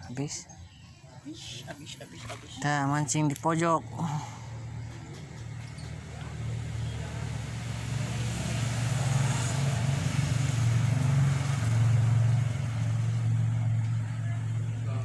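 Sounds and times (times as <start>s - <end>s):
engine humming: 1.3s - 15.0s.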